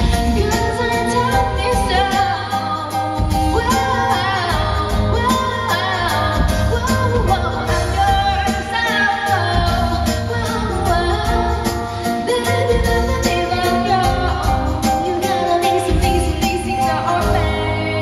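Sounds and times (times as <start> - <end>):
band playing with steady beat: 0.0 - 18.0
woman singing pop song: 0.0 - 18.0.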